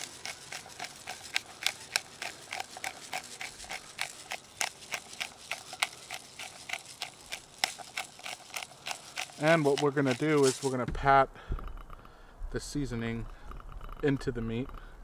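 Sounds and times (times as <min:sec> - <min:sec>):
pepper mill grinding clicks: 0:00.0 - 0:15.0.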